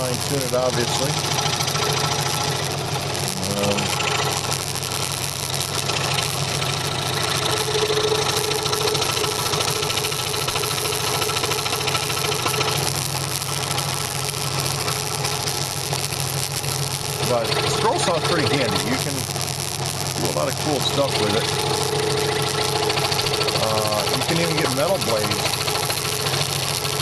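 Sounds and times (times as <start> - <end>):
scroll saw running: 0.0 - 27.0.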